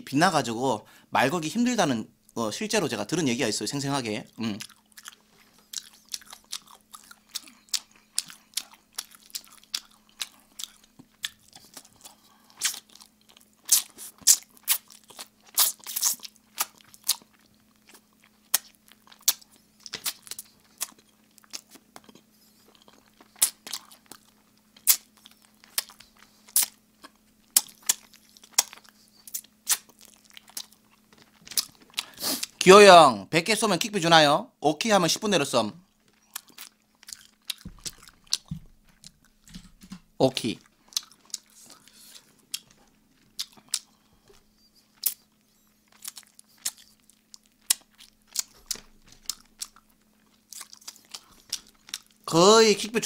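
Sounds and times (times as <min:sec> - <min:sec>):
crunching fried chicken: 0:04.3 - 0:32.6, 0:35.9 - 0:39.6, 0:40.4 - 0:53.0.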